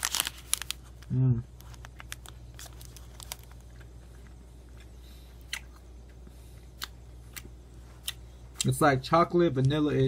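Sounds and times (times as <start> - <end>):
steady low hum: 0.0 - 10.0
person chewing: 0.7 - 8.8.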